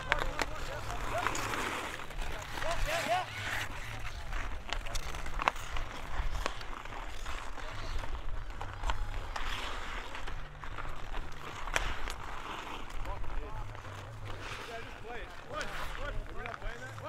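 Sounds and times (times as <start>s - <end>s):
hockey sticks clacking puck: 0.0s - 17.0s
skates scraping ice: 0.0s - 17.0s.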